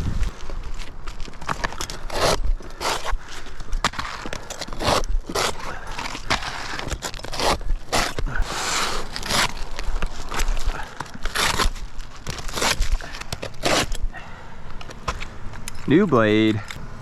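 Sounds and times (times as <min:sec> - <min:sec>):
roofing scraping and tearing: 0:00.1 - 0:15.2.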